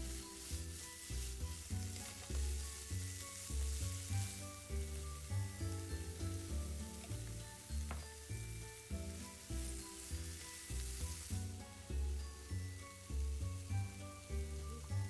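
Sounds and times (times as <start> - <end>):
background music with bass line: 0.0 - 15.0
food sizzling in a frying pan: 0.0 - 15.0.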